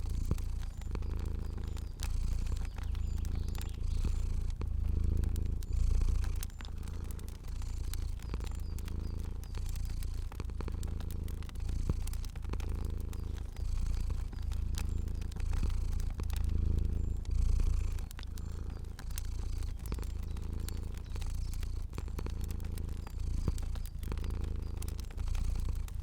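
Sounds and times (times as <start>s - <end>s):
cat purring: 0.0s - 26.0s
fire crackling: 0.0s - 26.0s.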